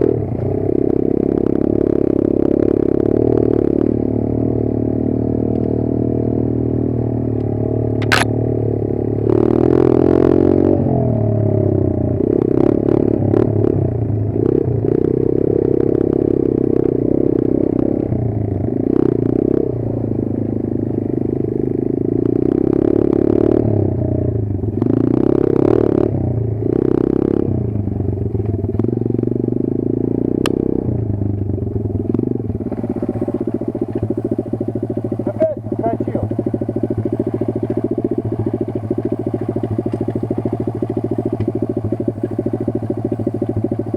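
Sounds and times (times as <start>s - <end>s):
motorbike engine revving: 0.0s - 43.9s.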